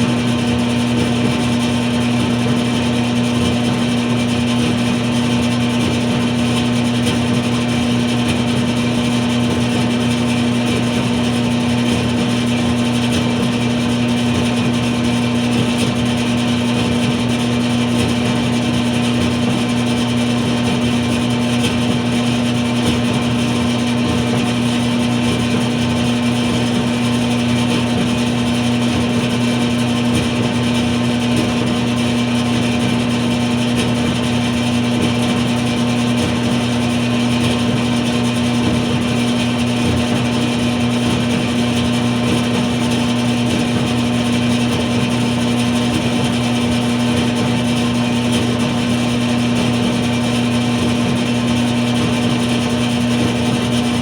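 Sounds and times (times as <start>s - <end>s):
dryer droning: 0.0s - 54.0s.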